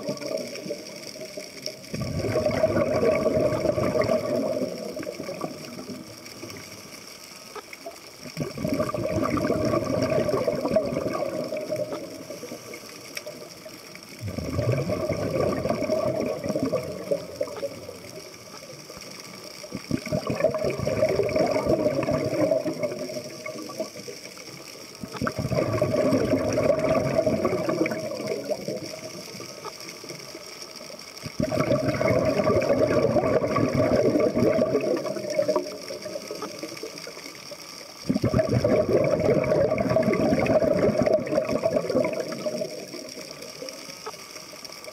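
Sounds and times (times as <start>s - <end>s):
exhaled bubbles underwater: 0.0s - 44.9s.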